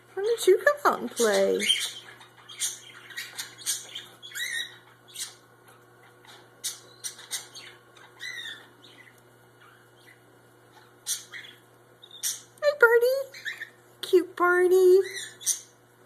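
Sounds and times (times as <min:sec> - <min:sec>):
bird chicks squawking and chirping: 0:01.0 - 0:12.6, 0:13.2 - 0:13.8, 0:15.0 - 0:15.9.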